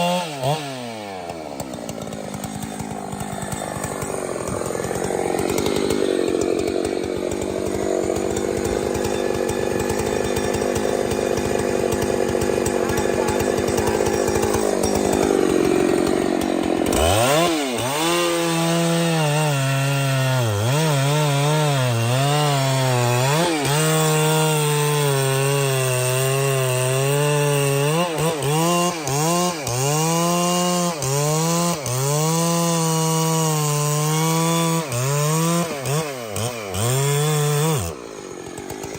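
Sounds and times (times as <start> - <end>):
chainsaw cutting tree trunk: 0.0 - 38.9
chainsaw engine revving: 0.0 - 38.9.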